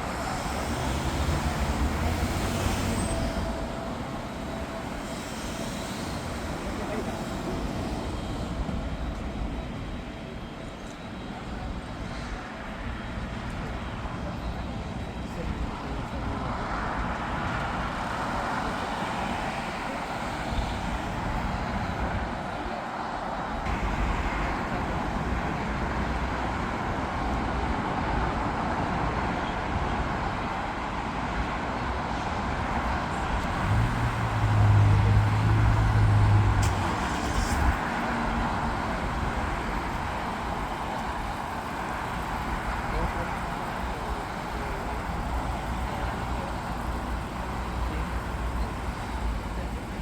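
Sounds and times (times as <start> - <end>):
aircraft engine roar: 0.0 - 50.0.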